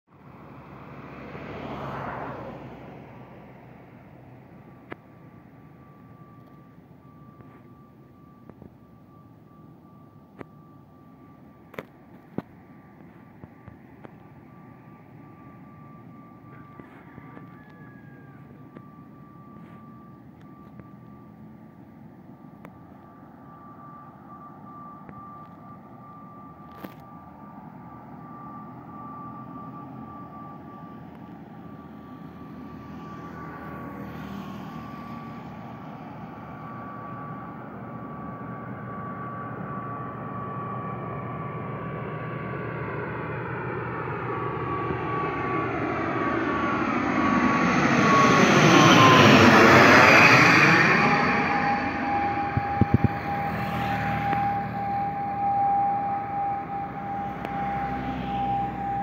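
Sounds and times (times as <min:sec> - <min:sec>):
turboprop airliner landing: 0:00.1 - 0:59.0.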